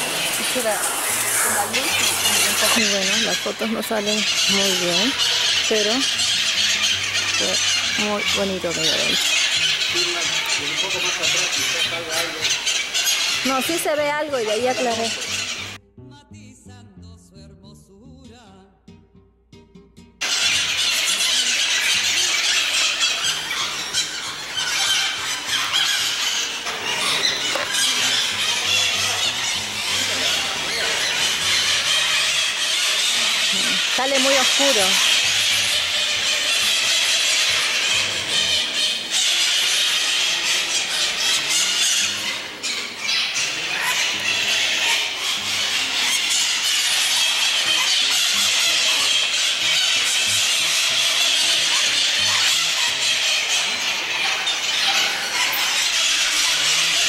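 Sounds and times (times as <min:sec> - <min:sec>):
birds screeching in chorus: 0:00.0 - 0:15.8, 0:20.2 - 0:57.0.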